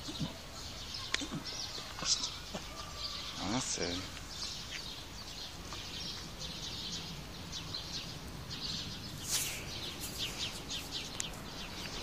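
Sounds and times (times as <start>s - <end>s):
low outdoor background hum: 0.0s - 12.0s
small birds chirping: 0.0s - 12.0s.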